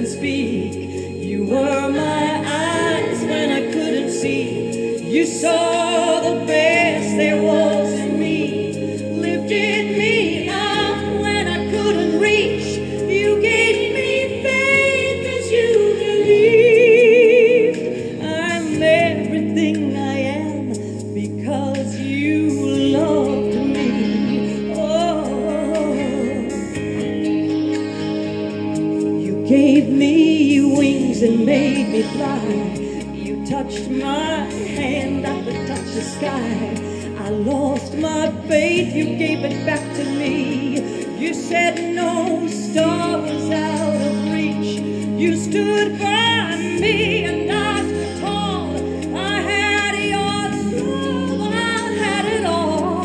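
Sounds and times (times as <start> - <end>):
woman singing pop ballad: 0.0 - 28.1, 28.8 - 53.0
instrumental backing: 0.0 - 53.0.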